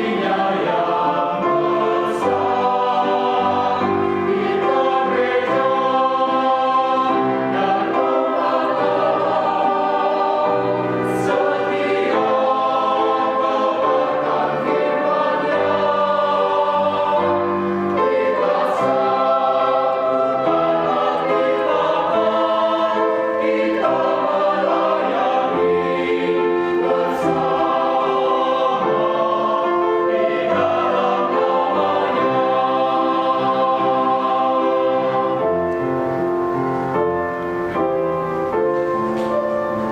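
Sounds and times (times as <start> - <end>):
choir singing: 0.0 - 36.7.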